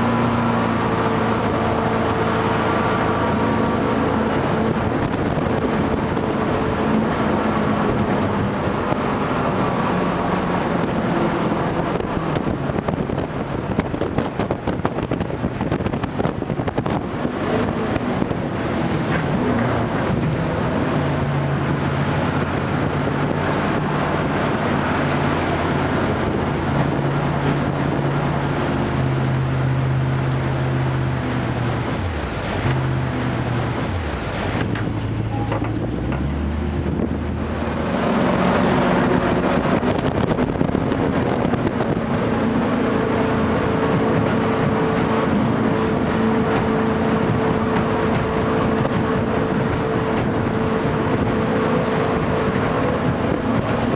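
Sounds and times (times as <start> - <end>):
jet boat engine drone: 0.0 - 53.9
water rushing: 0.0 - 53.9
wind buffeting microphone: 0.0 - 53.9.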